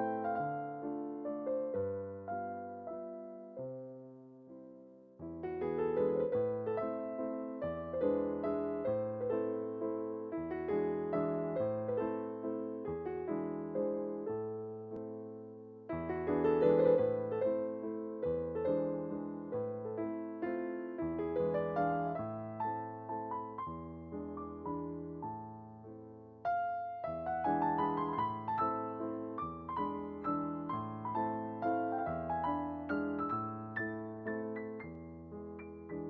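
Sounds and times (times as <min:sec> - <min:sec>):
piano chords: 0:00.0 - 0:36.0.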